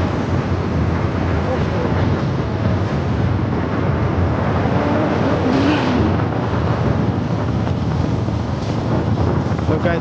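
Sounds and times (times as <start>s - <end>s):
vehicle rumble: 0.0s - 10.0s
wind noise on microphone: 0.0s - 10.0s.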